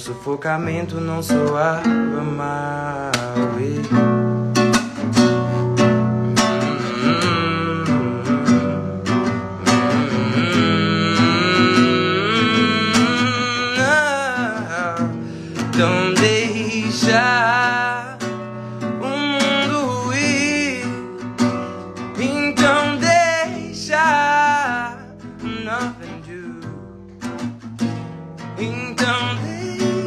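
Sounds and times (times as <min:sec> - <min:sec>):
man singing: 0:00.0 - 0:04.4, 0:05.2 - 0:26.9, 0:28.5 - 0:30.0
acoustic guitar chords: 0:00.0 - 0:30.0.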